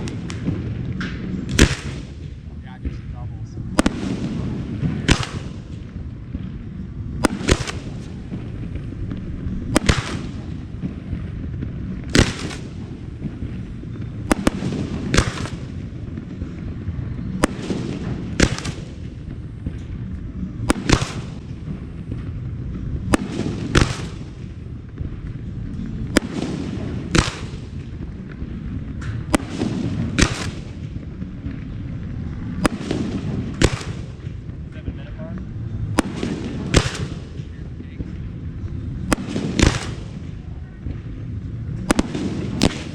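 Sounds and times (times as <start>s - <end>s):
firework shells bursting: 0.0s - 42.9s
low rumble of echoes: 0.0s - 42.9s.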